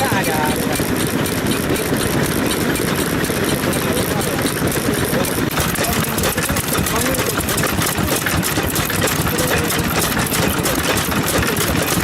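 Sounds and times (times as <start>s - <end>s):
stationary engines running: 0.0s - 12.0s.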